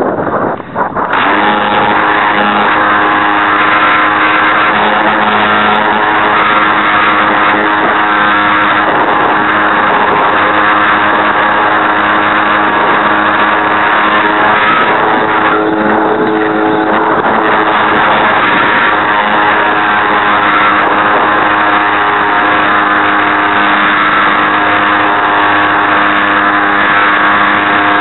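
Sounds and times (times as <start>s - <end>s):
model airplane motor drone: 0.3s - 28.0s.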